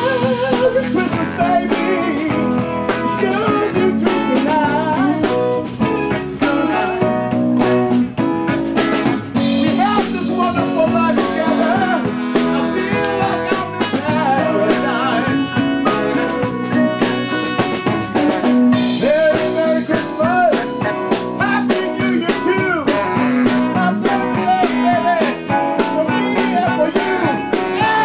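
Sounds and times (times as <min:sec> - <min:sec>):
live blues band playing: 0:00.0 - 0:28.0.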